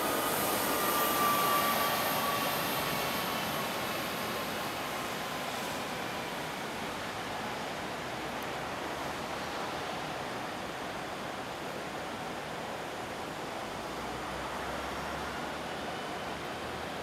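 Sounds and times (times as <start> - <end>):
city street traffic: 1.6 - 17.0.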